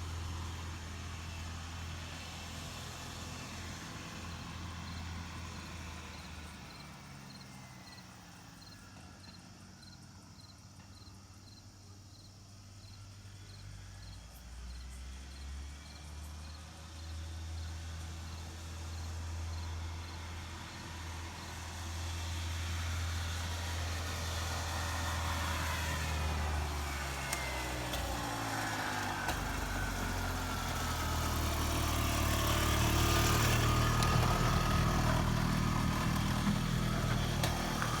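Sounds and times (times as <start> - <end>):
small golf cart engine running: 0.0 - 9.8, 15.1 - 38.0.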